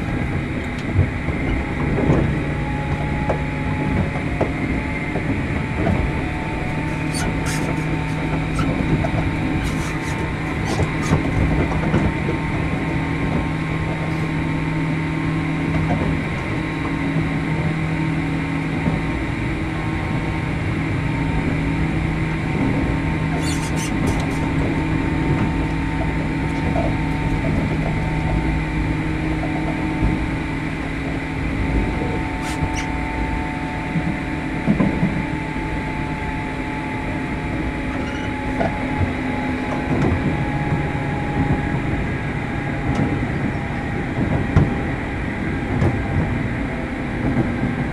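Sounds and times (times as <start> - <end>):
train motor humming: 0.0 - 47.9
train wheels rumbling on rail: 0.0 - 47.9.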